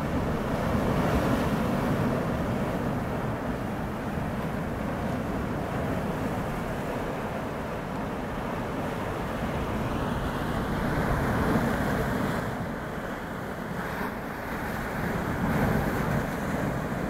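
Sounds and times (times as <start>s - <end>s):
choppy sea water rushing: 0.0s - 17.0s.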